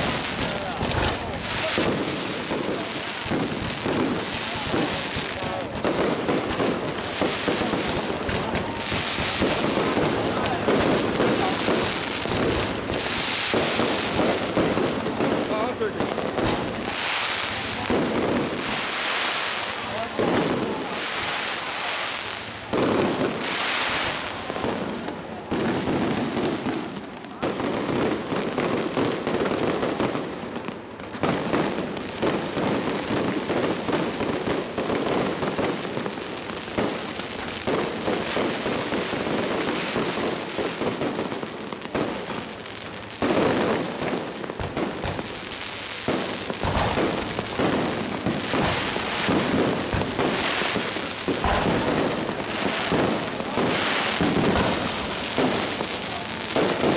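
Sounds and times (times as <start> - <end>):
fireworks bangs and crackling: 0.0 - 56.9
fireworks hissing bursts: 0.0 - 56.9.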